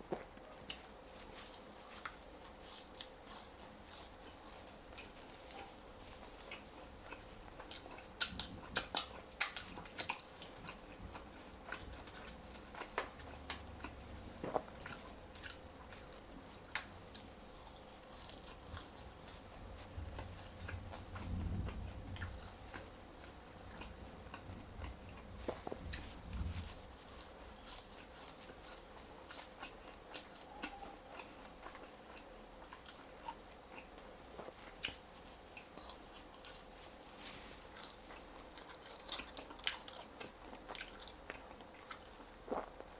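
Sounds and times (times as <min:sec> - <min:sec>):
crunchy chewing of fries: 0:00.0 - 0:42.9
wet chewing: 0:00.1 - 0:42.9.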